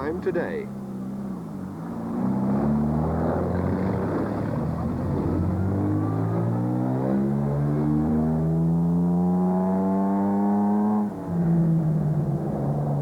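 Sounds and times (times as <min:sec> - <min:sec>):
car engine accelerating uphill: 0:00.0 - 0:13.0.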